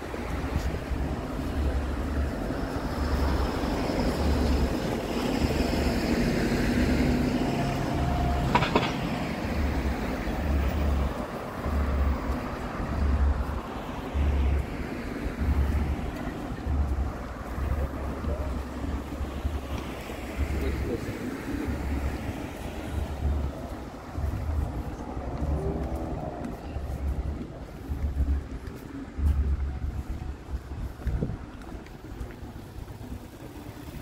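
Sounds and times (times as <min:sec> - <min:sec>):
passing traffic: 0:00.0 - 0:34.0
wind gusting on microphone: 0:00.0 - 0:34.0.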